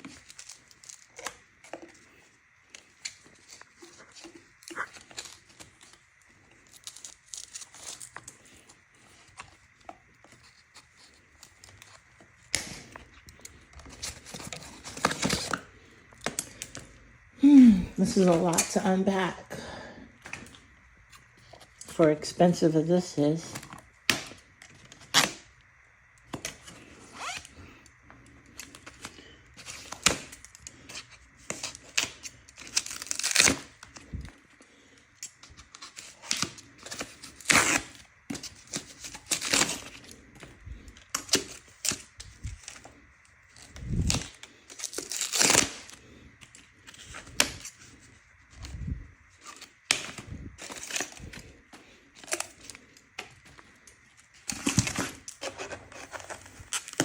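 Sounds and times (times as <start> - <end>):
packing material tearing and rustling: 0.0 - 19.3, 23.4 - 25.5, 26.2 - 57.0.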